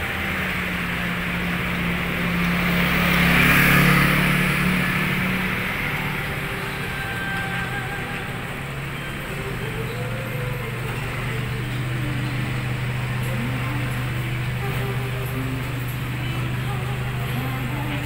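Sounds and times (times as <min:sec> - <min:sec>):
motor scooter passing: 0:00.0 - 0:18.0
street traffic: 0:00.0 - 0:18.0.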